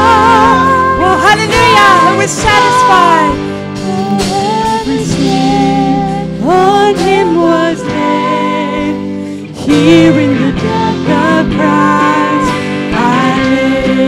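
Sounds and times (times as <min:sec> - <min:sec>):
electric guitar: 0:00.0 - 0:14.0
keyboard: 0:00.0 - 0:14.0
women singing: 0:00.0 - 0:14.0.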